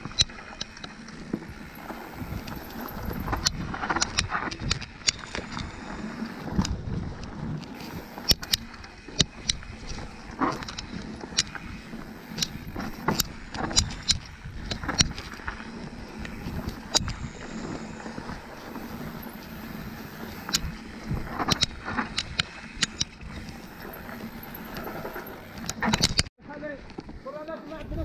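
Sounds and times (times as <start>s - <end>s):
bike rattles and knocks: 0.0s - 26.3s
bike rumbling over rough ground: 0.0s - 28.0s.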